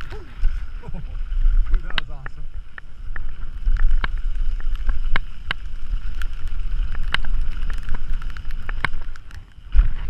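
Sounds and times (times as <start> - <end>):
tyre noise on dirt: 0.0 - 10.0
wind rumble on microphone: 0.0 - 10.0
bike rattling and clacking: 1.6 - 10.0.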